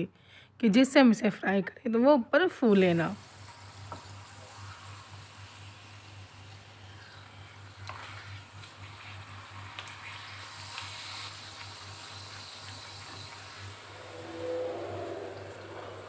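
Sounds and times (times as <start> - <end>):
dough sizzling in hot oil: 2.8 - 16.0.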